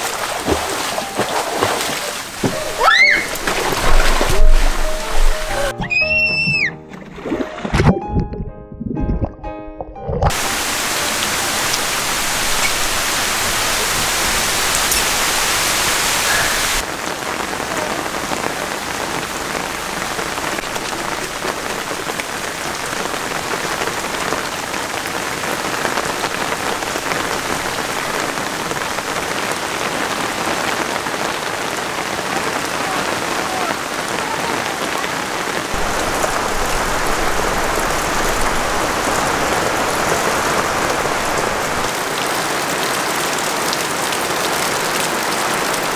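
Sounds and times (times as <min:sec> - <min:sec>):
heavy rain on water and leaves: 0:00.0 - 0:05.7, 0:10.3 - 0:45.9.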